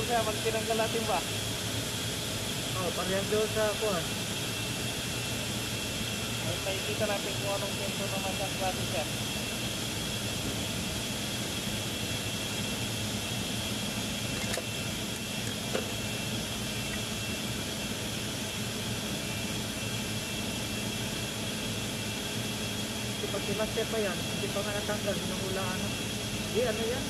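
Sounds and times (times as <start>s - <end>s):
air conditioning machinery drone: 0.0s - 27.0s.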